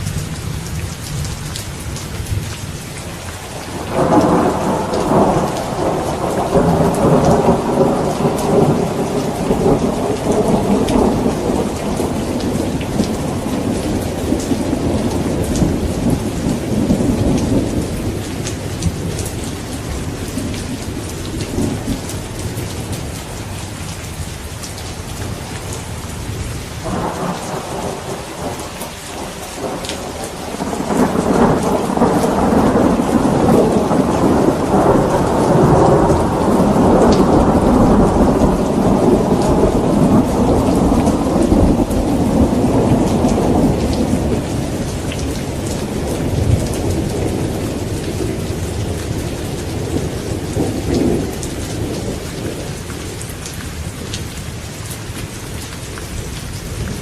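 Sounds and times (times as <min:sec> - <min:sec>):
rain falling: 0:00.0 - 0:57.0
rolling thunder: 0:03.6 - 0:23.2, 0:26.3 - 0:53.3.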